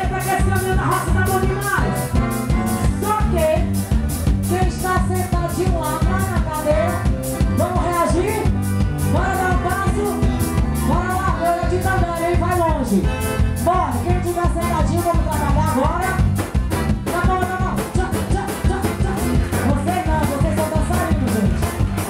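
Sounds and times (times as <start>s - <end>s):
fast drum beat: 0.0s - 22.0s
live band playing dance music: 0.0s - 22.0s.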